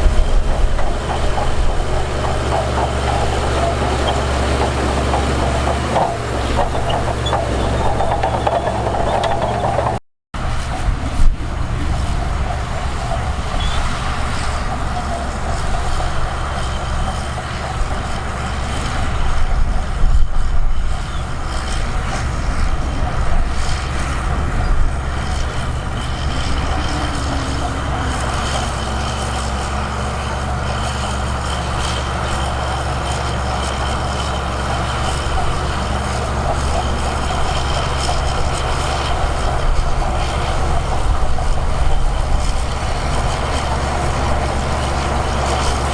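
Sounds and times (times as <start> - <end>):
diesel earthmoving machinery: 0.0 - 45.9.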